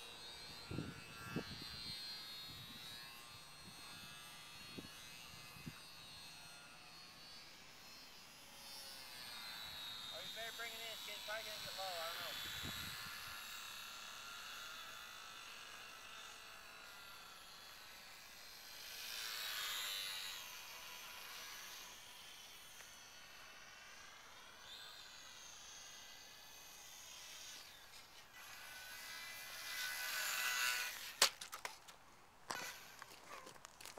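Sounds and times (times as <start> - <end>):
model plane motor buzzing: 0.0 - 33.9.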